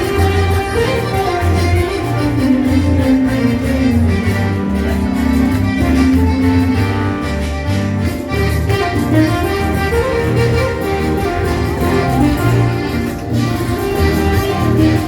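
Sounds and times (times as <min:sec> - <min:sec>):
live latin band playing: 0:00.0 - 0:15.0.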